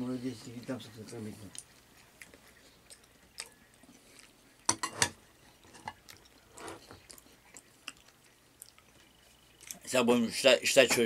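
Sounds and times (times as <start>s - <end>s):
chewing mouth noises: 1.0s - 10.0s.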